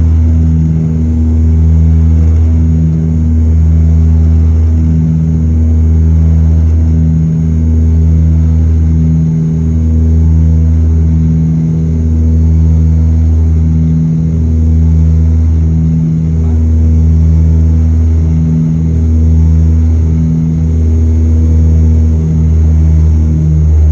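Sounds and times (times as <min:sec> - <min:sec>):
turboprop engines droning: 0:00.0 - 0:23.9.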